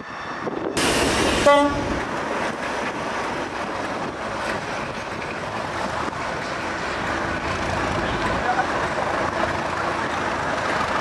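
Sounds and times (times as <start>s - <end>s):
diesel locomotive engine running: 0.0s - 11.0s
train wheel noise: 0.0s - 11.0s.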